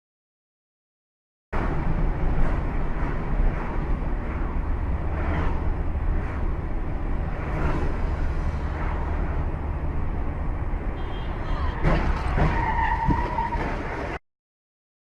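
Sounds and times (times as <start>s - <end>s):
car engine and road noise: 1.6s - 14.2s.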